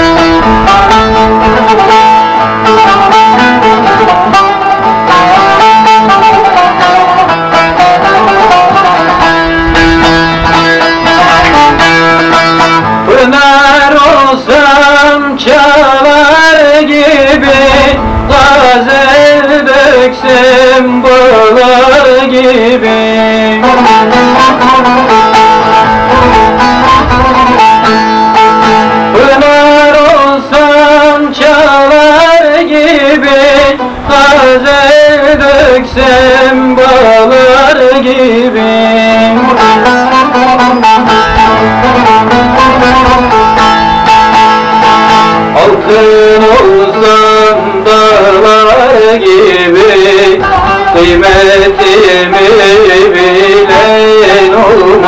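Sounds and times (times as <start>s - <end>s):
man singing: 0.0s - 55.0s
plucked long-necked lute: 0.0s - 55.0s.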